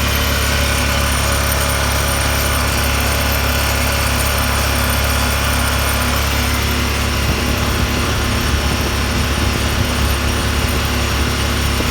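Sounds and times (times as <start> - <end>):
vehicle engine running: 0.0 - 11.9.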